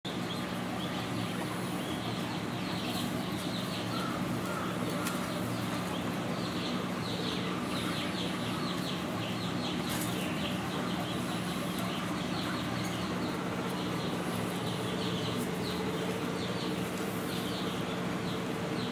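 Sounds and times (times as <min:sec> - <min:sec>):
steady low hum: 0:00.1 - 0:18.9.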